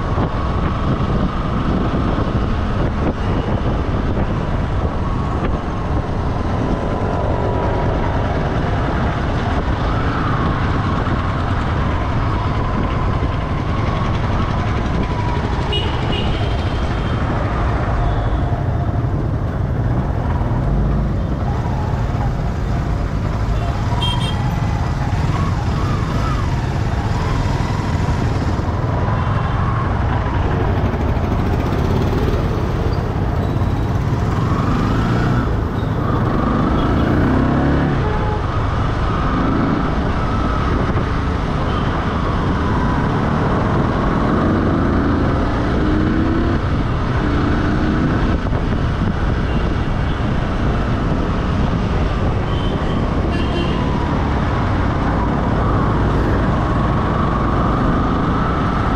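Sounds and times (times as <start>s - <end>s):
vehicle driving on road: 0.0s - 58.9s.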